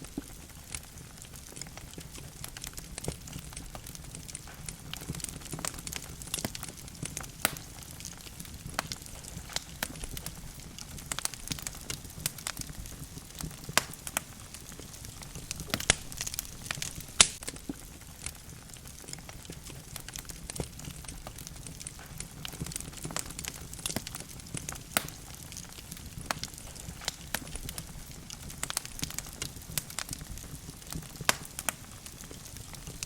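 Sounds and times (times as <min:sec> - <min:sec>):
logs crackling in fireplace: 0:00.0 - 0:33.0.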